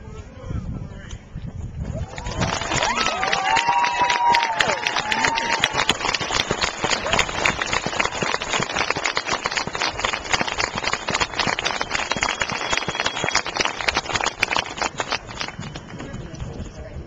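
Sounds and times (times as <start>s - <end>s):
spectators applauding: 2.0s - 16.3s.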